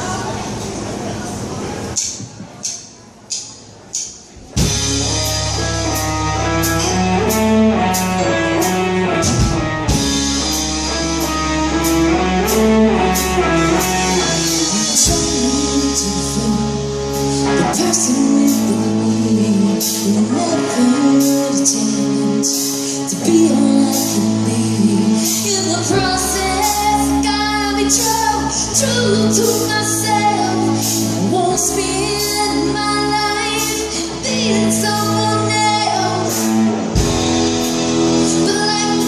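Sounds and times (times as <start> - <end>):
band music: 1.9 - 39.0
bass line: 4.4 - 39.0.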